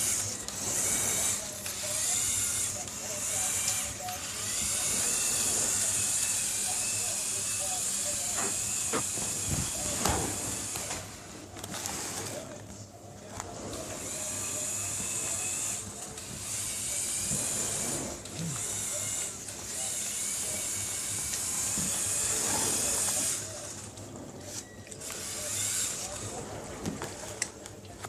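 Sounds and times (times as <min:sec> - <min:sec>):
toy truck motors whirring: 0:00.0 - 0:12.4, 0:13.7 - 0:23.7, 0:24.4 - 0:26.4.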